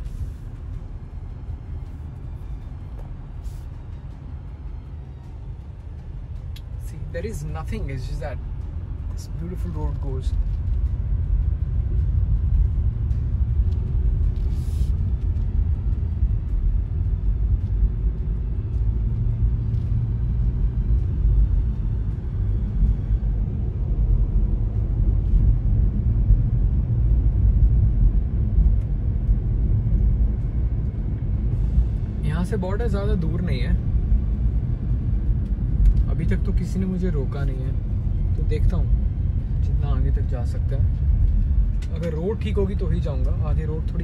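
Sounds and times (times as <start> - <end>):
car driving on road: 0.0 - 44.0.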